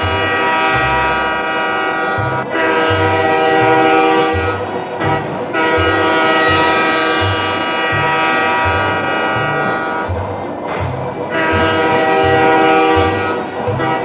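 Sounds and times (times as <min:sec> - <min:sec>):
music with bouncy bass line: 0:00.0 - 0:14.0
train horn blasts: 0:00.0 - 0:14.0.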